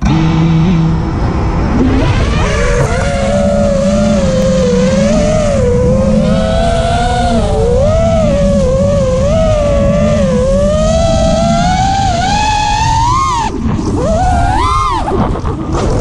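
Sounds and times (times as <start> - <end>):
drone motors whining: 0.0 - 16.0
wind rumble on microphone: 0.0 - 16.0.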